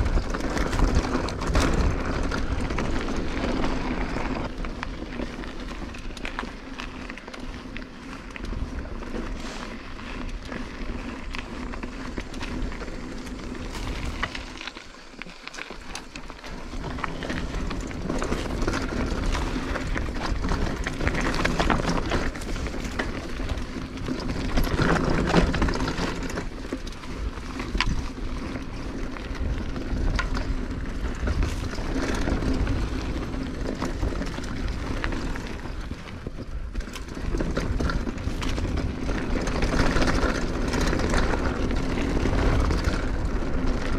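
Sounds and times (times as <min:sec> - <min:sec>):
bike rattling and knocking: 0:00.0 - 0:43.9
bike tyres crunching over stones: 0:00.0 - 0:43.9
wind rumble on microphone: 0:00.0 - 0:43.9.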